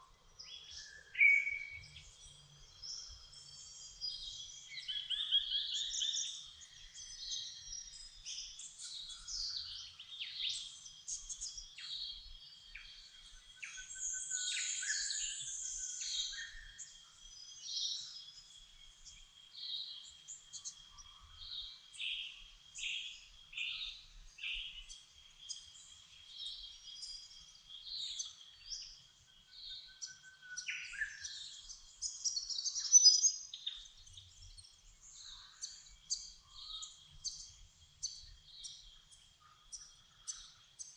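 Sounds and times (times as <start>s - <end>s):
birds singing and chirping: 0.0s - 40.9s.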